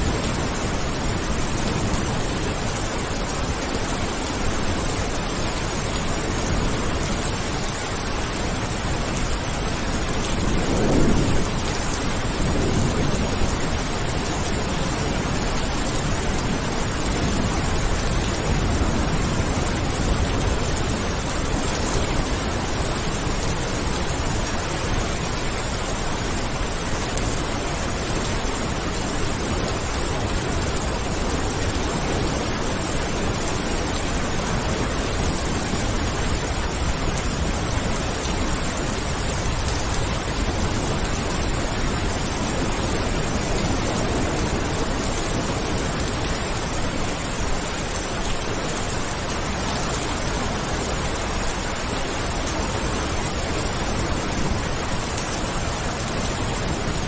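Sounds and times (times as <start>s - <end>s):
low thunder rumble: 0.0s - 47.6s
steady rain: 0.0s - 57.0s.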